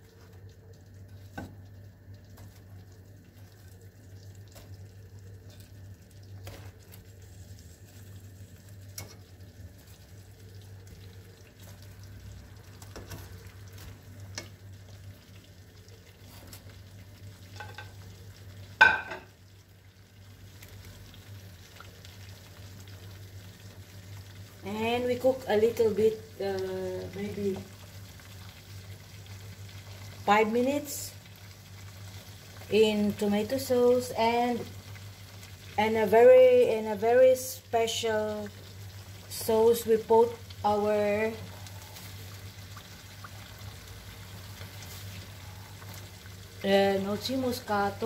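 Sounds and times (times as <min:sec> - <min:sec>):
sauce sizzling in a pot: 0:00.0 - 0:48.0.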